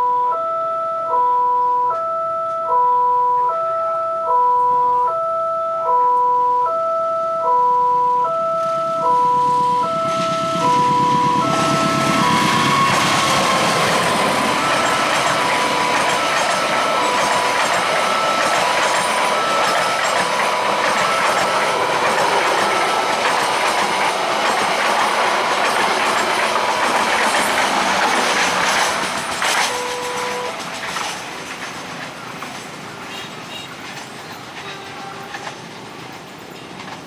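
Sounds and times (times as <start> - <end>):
crossing warning signal two-tone: 0.0 - 31.5, 32.3 - 35.7
train passing at speed: 5.9 - 37.0.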